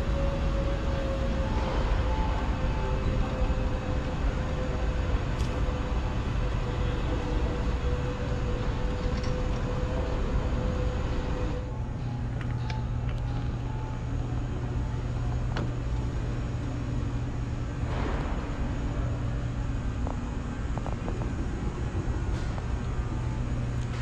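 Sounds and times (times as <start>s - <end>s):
faint steady hum: 0.0s - 24.0s
rumbling hall room noise: 0.0s - 24.0s.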